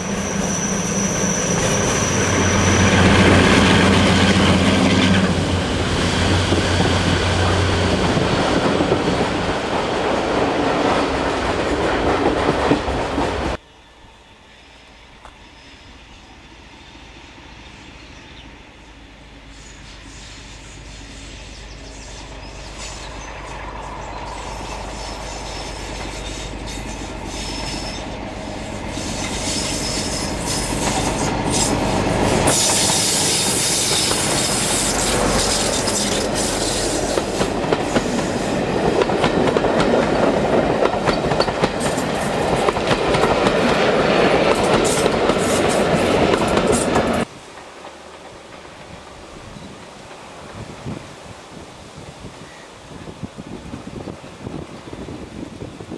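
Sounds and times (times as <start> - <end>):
diesel train passing: 0.0 - 55.9.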